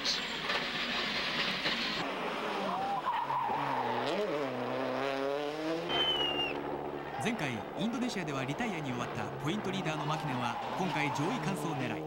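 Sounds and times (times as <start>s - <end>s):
rally car engine: 0.0s - 12.0s
road noise: 0.0s - 12.0s.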